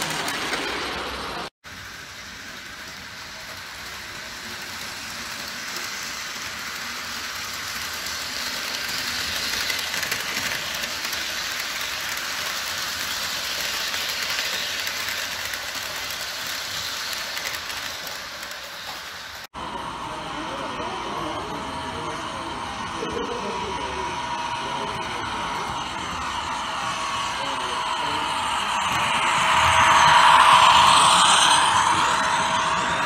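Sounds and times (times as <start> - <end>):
model train wheels rolling: 0.0 - 19.5, 20.4 - 33.0.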